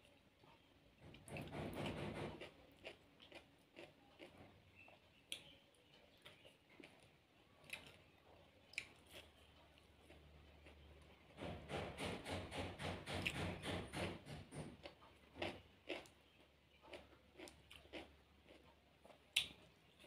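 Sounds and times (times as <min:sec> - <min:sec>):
faint chewing: 0:00.0 - 0:11.4, 0:14.6 - 0:20.0.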